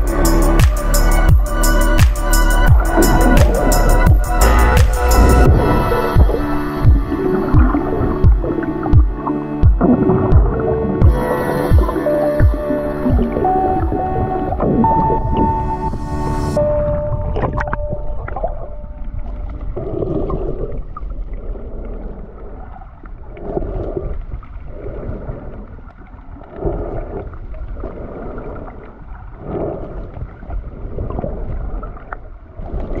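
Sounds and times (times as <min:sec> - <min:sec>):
underwater water rushing: 0:00.0 - 0:33.0.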